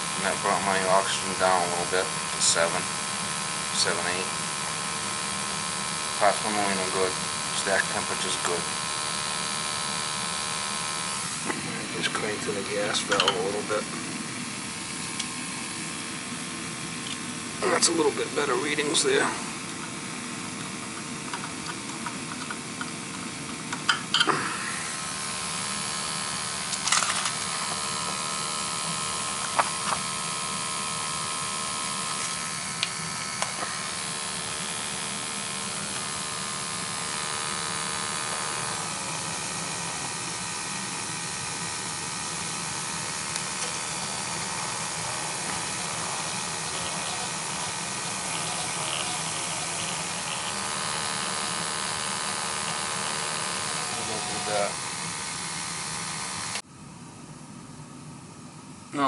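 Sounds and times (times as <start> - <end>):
gas boiler burner hiss: 0.0 - 56.7
faint hum: 0.0 - 59.0.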